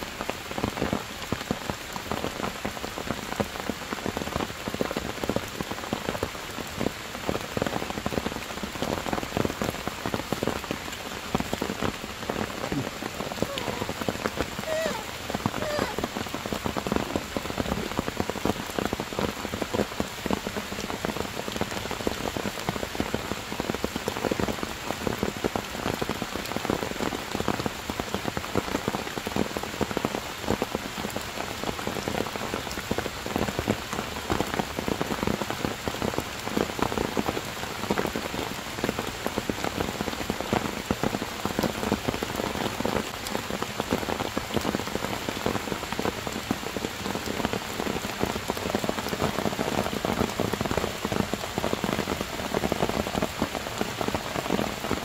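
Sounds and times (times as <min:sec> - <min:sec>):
heavy rain on stone and foliage: 0:00.0 - 0:55.0.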